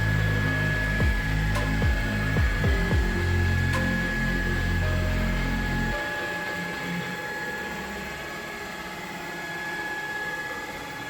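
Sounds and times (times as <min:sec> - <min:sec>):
faint high whine: 0:00.0 - 0:11.0
stepper motors humming: 0:00.0 - 0:11.0.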